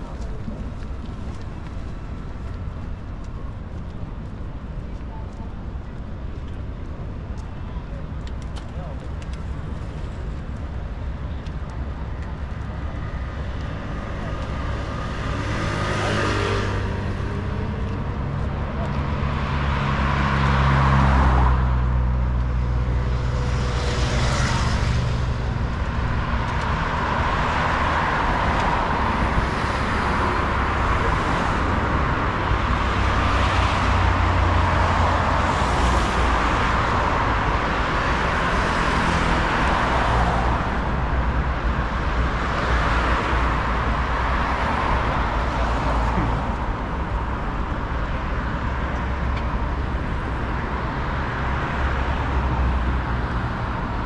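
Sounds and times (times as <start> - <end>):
roadway noise: 0.0 - 54.0
vehicles passing: 0.0 - 54.0.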